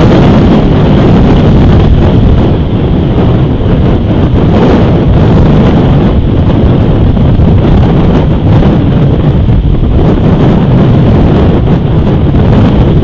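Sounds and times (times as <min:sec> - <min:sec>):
wind blowing on microphone: 0:00.0 - 0:13.0.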